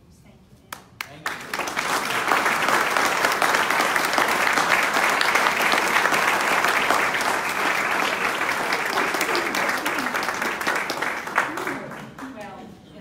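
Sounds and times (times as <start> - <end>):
audience applauding: 1.0 - 12.4.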